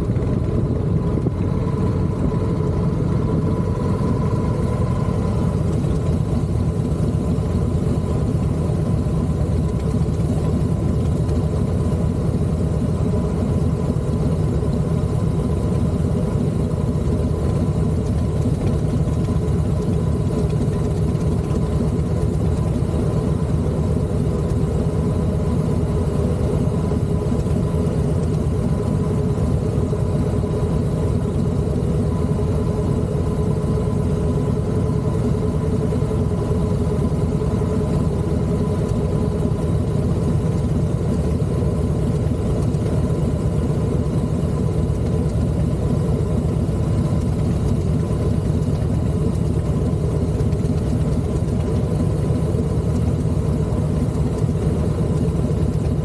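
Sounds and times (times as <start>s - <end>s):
vehicle road rumble: 0.0s - 56.0s.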